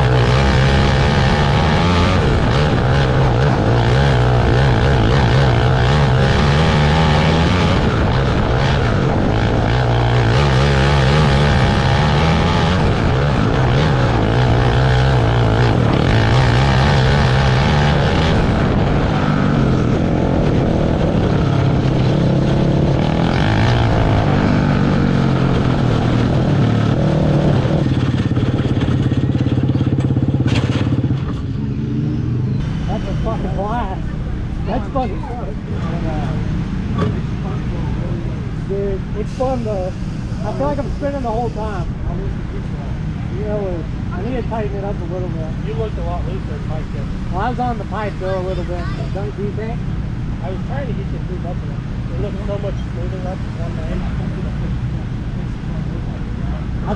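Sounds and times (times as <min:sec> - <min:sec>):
racing kart engine revving: 0:00.0 - 0:56.9.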